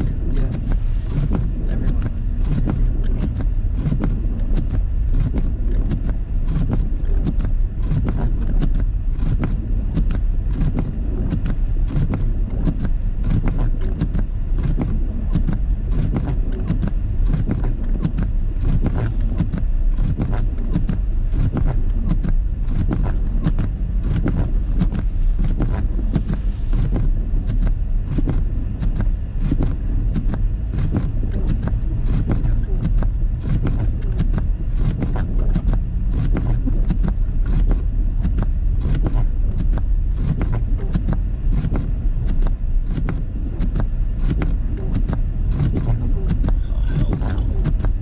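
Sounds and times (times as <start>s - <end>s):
engine and tyre rumble: 0.0s - 48.0s.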